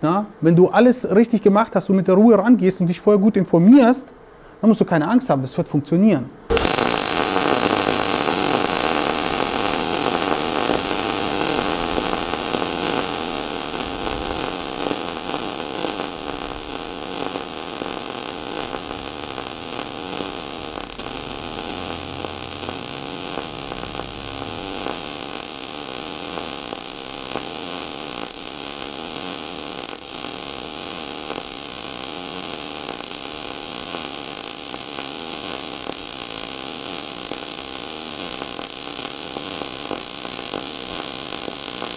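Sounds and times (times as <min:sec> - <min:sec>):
welding arc crackling hiss: 0:06.5 - 0:41.9.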